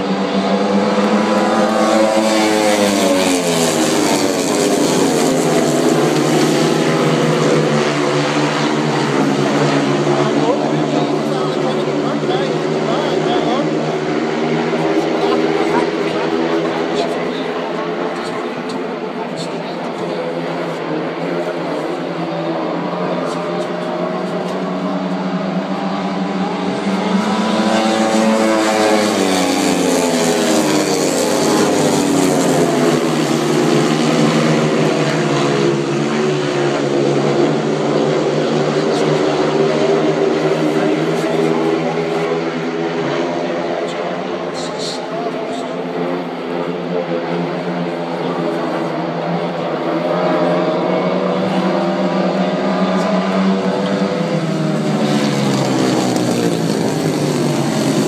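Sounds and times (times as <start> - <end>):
speedway motorcycles racing: 0.0 - 58.0.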